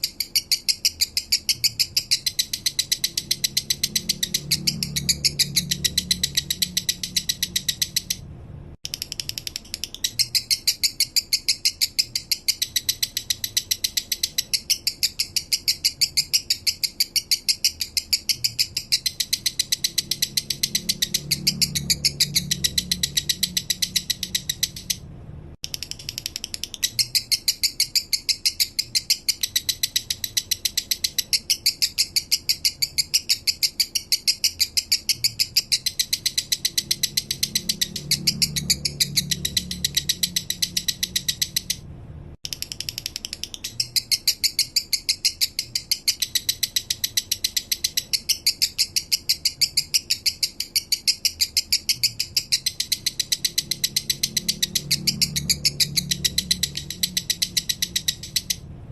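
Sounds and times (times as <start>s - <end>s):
lovebird chattering song: 0.0s - 8.2s, 8.8s - 25.0s, 25.6s - 41.8s, 42.4s - 58.7s.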